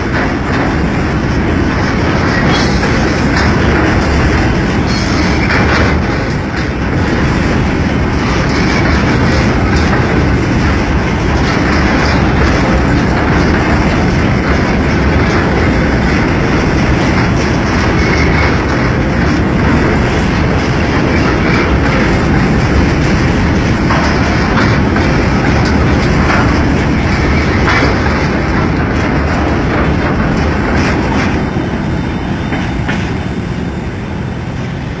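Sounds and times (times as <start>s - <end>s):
freight wagon wheels clattering: 0.0s - 32.0s
train rumble: 0.0s - 35.0s.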